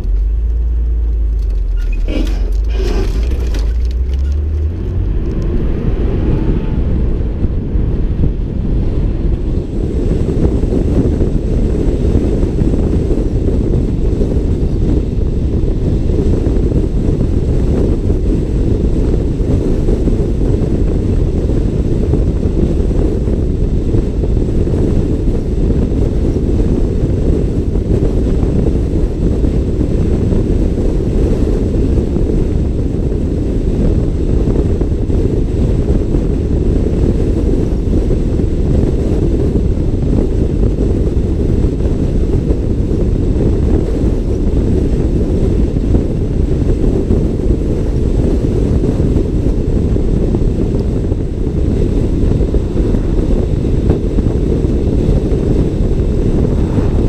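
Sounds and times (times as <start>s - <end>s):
low vehicle hum: 0.0s - 57.0s
wind buffeting microphone: 0.0s - 57.0s.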